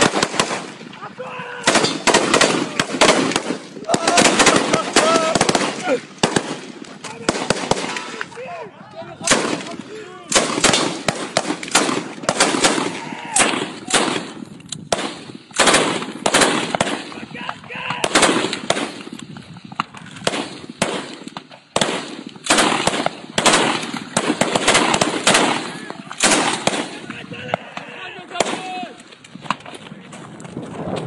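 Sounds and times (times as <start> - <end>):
rifle gunfire: 0.0 - 0.9, 1.6 - 8.3, 9.2 - 17.2, 17.9 - 19.2, 20.1 - 28.9.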